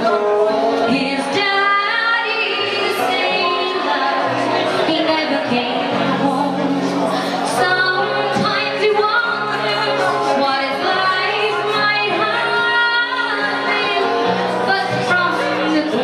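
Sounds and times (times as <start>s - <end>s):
woman singing into a microphone: 0.0s - 16.0s.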